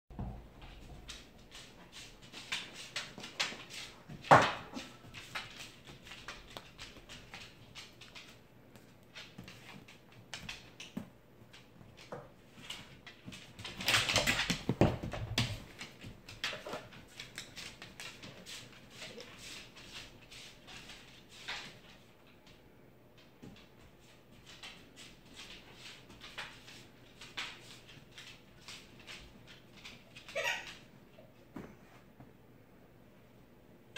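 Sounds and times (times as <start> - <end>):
claws and toys clicking on floor: 0.2 - 31.7.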